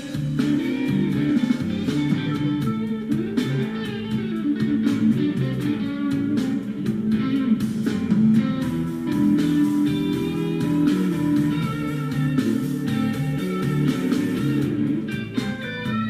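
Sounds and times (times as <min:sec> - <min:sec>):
bluesy guitar music: 0:00.0 - 0:16.0.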